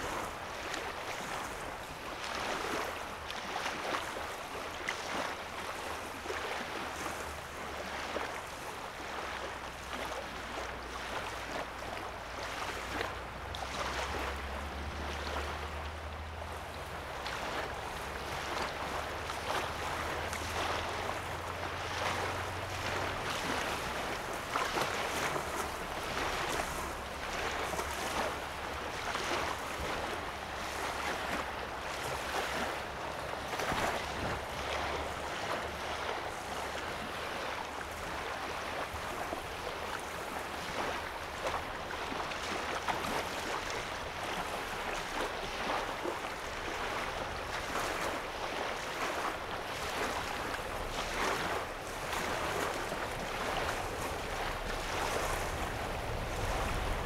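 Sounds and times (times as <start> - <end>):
waves lapping on sandy shore: 0.0 - 57.0.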